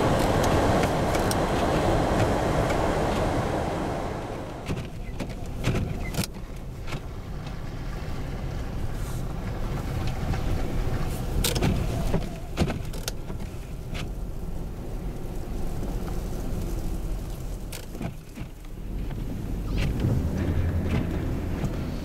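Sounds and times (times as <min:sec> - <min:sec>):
blizzard wind buffeting glass: 0:00.0 - 0:22.0.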